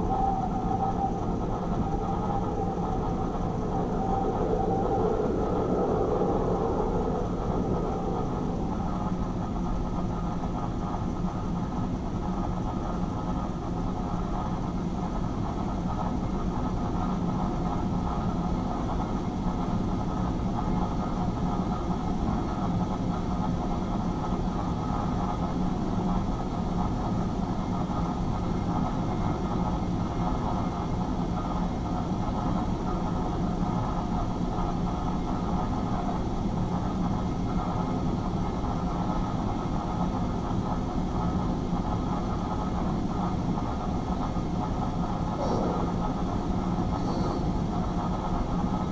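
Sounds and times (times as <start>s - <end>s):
low rumbling ambient drone: 0.0s - 48.9s.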